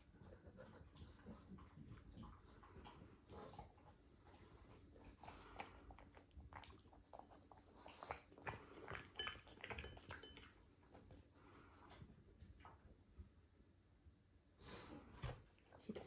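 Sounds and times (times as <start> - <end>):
dog eating: 0.0 - 13.1.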